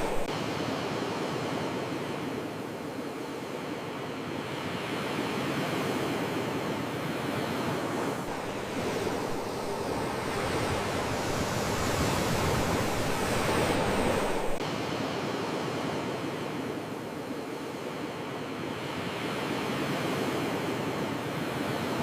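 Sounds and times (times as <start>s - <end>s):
ocean waves washing in: 0.0s - 22.0s.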